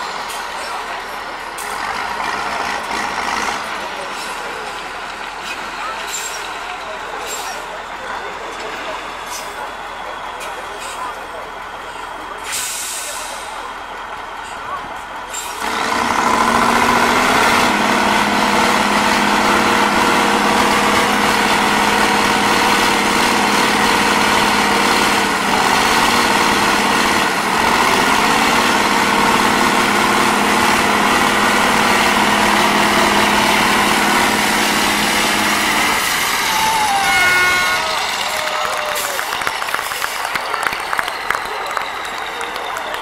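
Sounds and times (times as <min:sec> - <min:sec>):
diesel engine running under load: 0:00.0 - 0:43.0.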